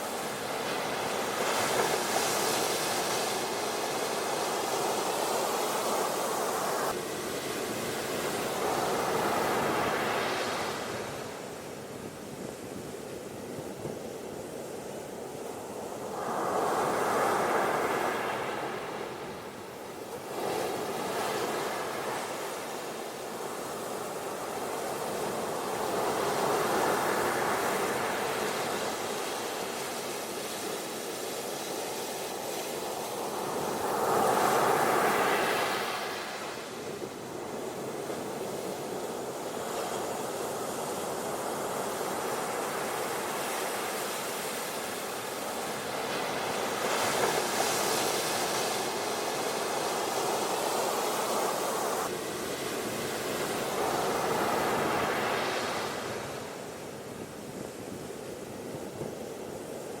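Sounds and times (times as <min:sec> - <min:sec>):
waves breaking on beach: 0:00.0 - 1:00.0.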